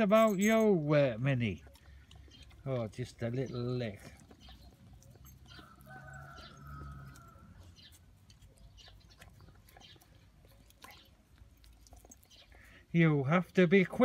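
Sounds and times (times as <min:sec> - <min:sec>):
dogs licking and smacking: 0:00.0 - 0:14.0.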